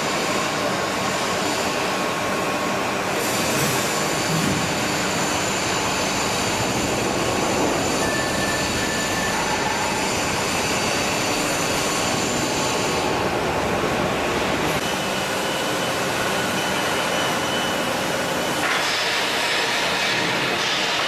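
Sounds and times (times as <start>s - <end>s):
hydraulic press mechanical drone: 0.2s - 21.0s.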